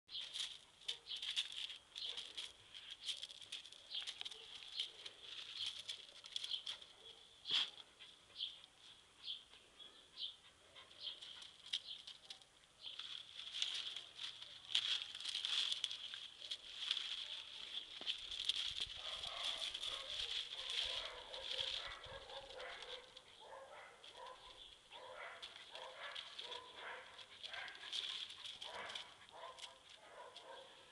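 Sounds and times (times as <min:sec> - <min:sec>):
puppy rustling palm fronds: 0:00.1 - 0:06.9, 0:11.1 - 0:30.9
scraping on gravel: 0:00.1 - 0:06.9, 0:11.0 - 0:30.7.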